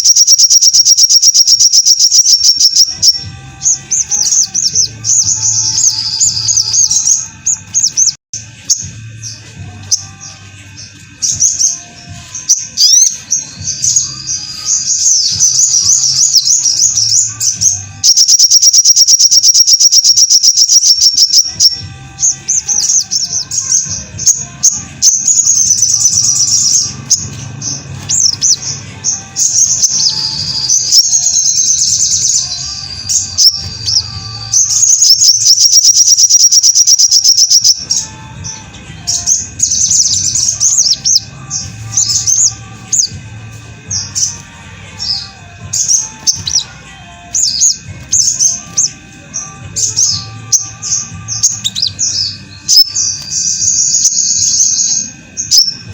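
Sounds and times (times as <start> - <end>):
bird singing chirps and trills: 0.0 - 55.9.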